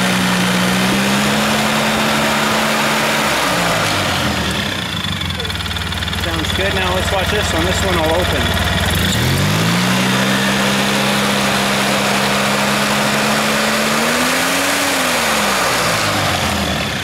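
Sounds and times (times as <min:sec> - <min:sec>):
clutch whirring: 0:00.0 - 0:17.0
small engine revving: 0:00.0 - 0:17.0.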